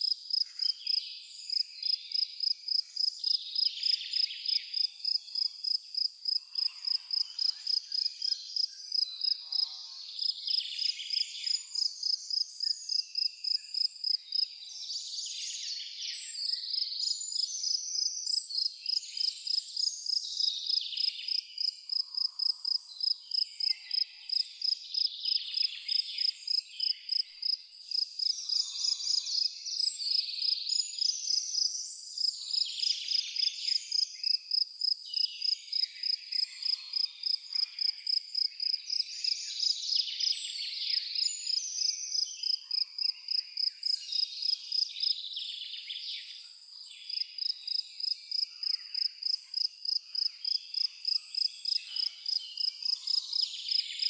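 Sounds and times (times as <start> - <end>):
insect chirping: 0.0 - 11.2, 11.8 - 14.5, 16.4 - 45.4, 47.1 - 54.0
birds singing: 0.0 - 54.0.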